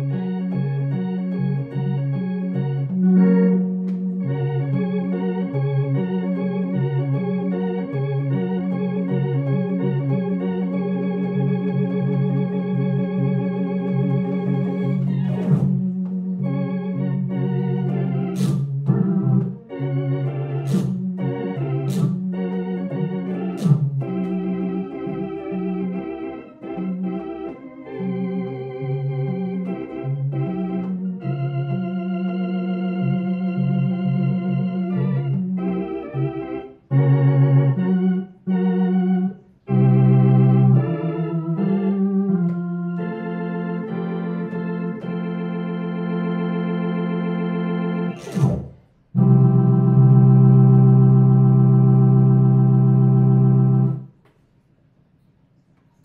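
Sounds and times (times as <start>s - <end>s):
electronic organ blues chords: 0.0s - 54.2s.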